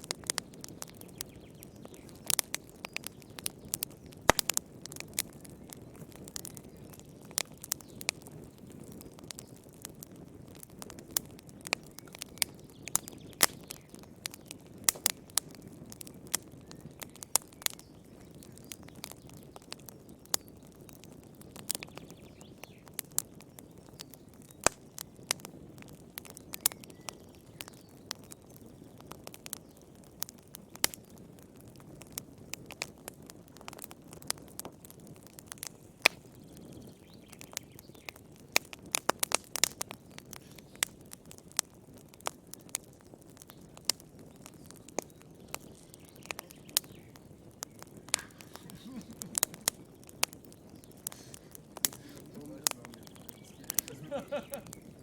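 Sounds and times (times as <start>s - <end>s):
fire popping and crackling: 0.0s - 55.0s
low rumble of flames: 0.0s - 55.0s.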